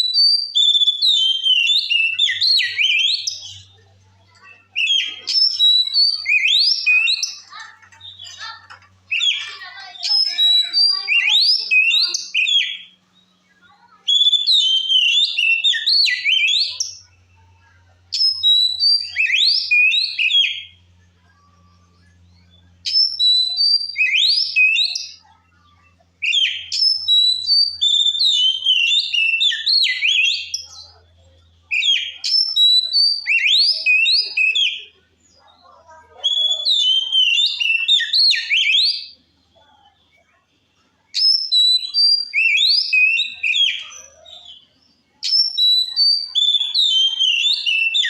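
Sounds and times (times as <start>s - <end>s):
songbird whistling song: 0.0s - 48.0s.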